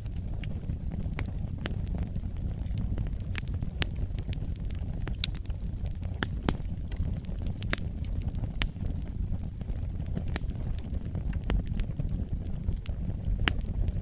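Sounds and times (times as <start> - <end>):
campfire wood crackling and popping: 0.0 - 14.0
low steady rumble: 0.0 - 14.0.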